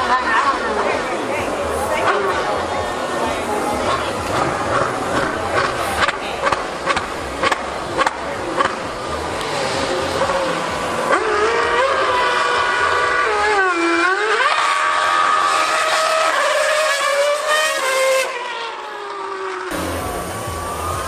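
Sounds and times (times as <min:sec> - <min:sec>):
racing car engine screaming: 0:01.6 - 0:21.0.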